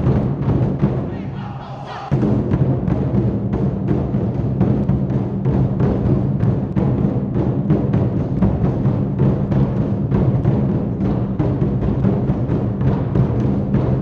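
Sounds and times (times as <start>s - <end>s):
large drums beating fast rhythm: 0.0s - 14.0s.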